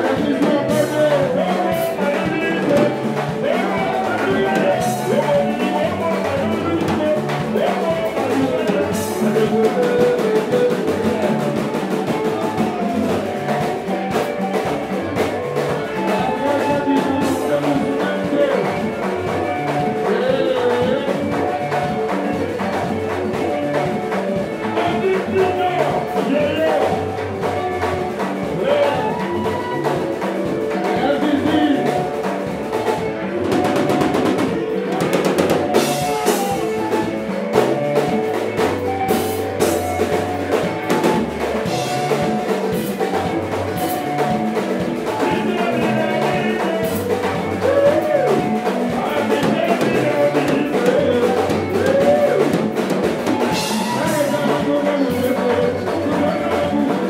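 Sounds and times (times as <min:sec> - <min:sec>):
bass: 0:00.0 - 0:57.0
drum kit: 0:00.0 - 0:57.0
electric guitar lines: 0:00.0 - 0:57.0.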